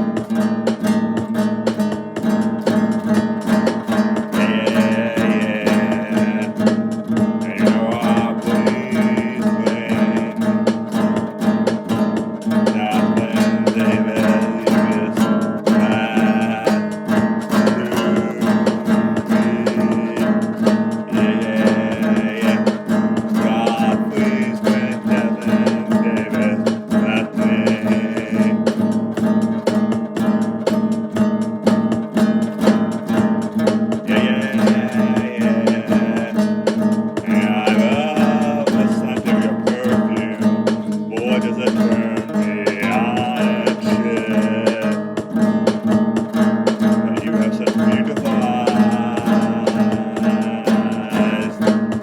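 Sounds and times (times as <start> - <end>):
strummed acoustic guitar music: 0.0 - 52.0.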